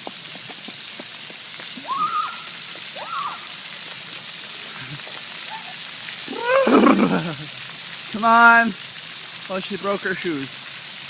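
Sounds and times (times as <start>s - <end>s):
rain and fountain water hiss: 0.0s - 11.0s.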